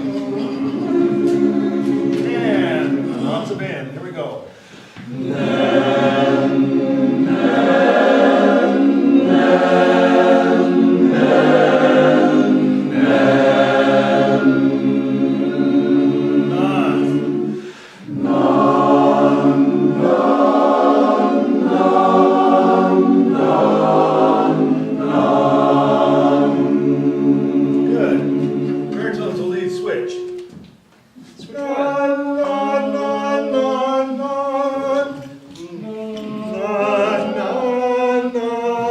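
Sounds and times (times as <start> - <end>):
chorus singing a cappella: 0.0 - 38.9.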